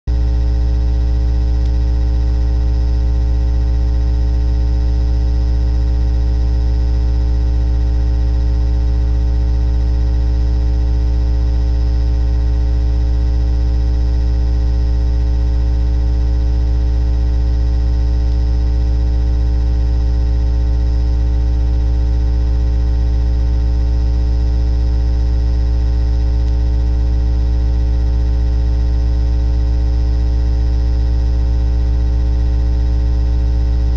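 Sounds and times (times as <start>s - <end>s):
electrical hum and buzz: 0.1s - 33.9s.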